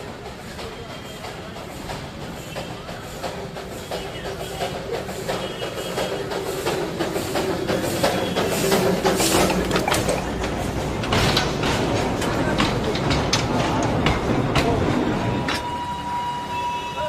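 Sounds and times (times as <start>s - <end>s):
train wheels clicking on rail joints: 0.0s - 15.8s
train rumble: 0.0s - 17.0s.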